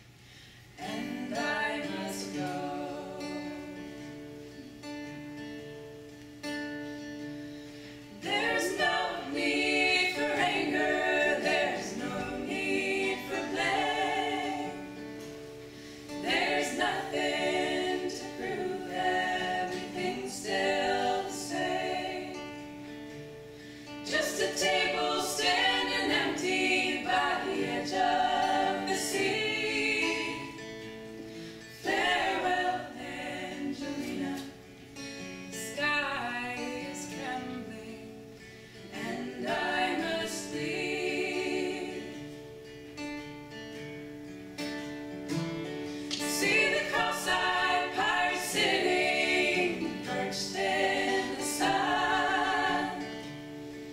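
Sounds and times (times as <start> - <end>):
acoustic guitar: 0.0 - 53.9
women singing in harmony: 0.8 - 4.3, 8.1 - 22.9, 24.0 - 34.8, 35.6 - 42.5, 45.9 - 53.9.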